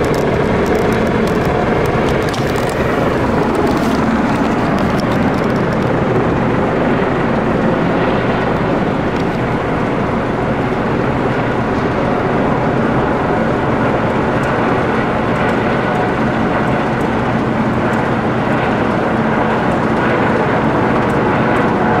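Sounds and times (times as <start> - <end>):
helicopter rotor and engines: 0.0 - 22.0.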